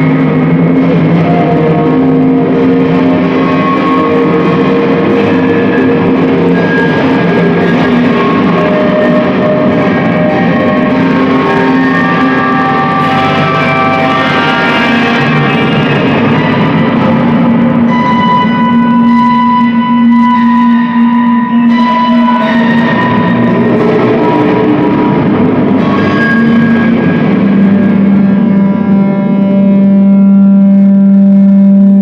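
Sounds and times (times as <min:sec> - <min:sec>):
experimental music of sustained tones: 0:00.0 - 0:32.0
low held tone: 0:00.0 - 0:32.0.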